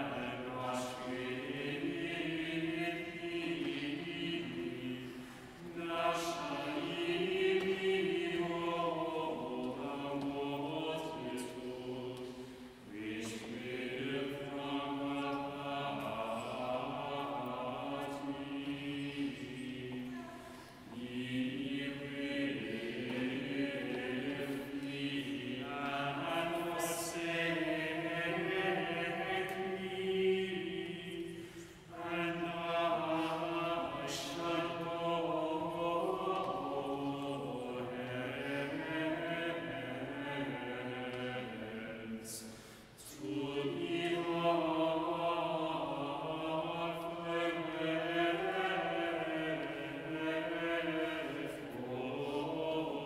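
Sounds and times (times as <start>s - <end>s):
plainsong chant: 0.0s - 53.0s.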